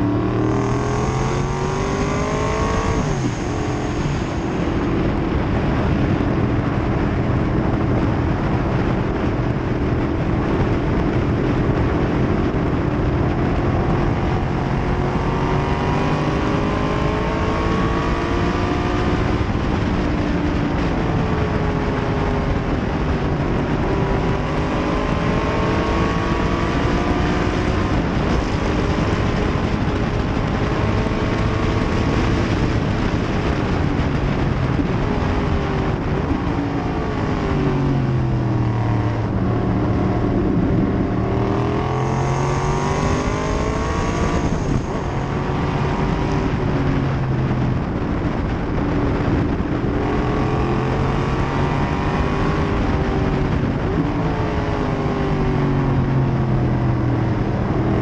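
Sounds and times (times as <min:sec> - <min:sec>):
race car engine running hard: 0:00.0 - 0:58.0
wind rushing over microphone: 0:00.0 - 0:58.0.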